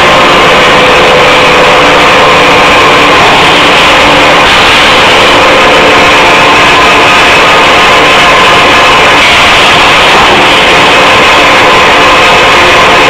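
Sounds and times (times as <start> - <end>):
loud steady machine noise: 0.0 - 13.0.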